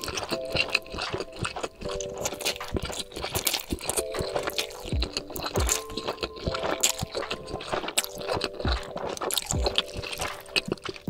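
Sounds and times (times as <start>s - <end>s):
background music with soft beat: 0.0s - 11.0s
mouth smacks and clicks: 0.0s - 11.0s
slurping and chewing noodles: 0.0s - 11.0s.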